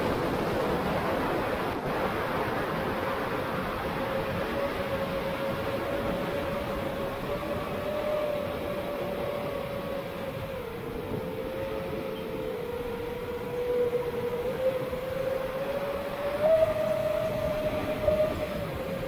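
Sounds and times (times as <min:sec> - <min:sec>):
drone motor and propeller whine: 0:00.0 - 0:19.0.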